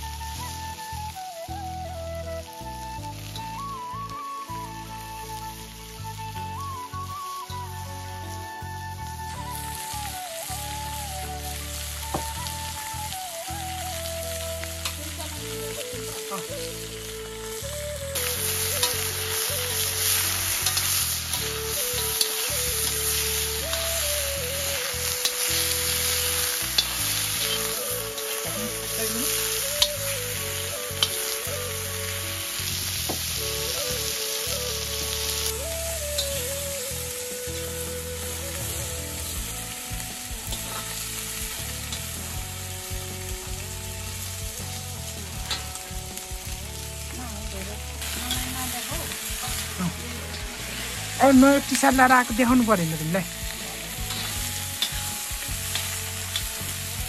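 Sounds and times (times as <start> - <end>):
food sizzling in a pan: 0.0 - 57.0
quiet background melody: 0.0 - 57.0.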